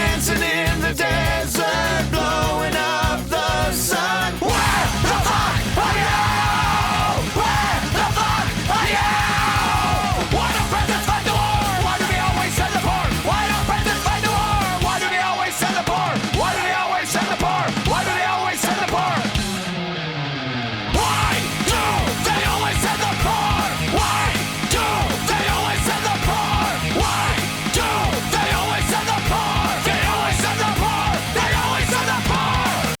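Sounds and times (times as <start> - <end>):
punk rock music: 0.0 - 33.0.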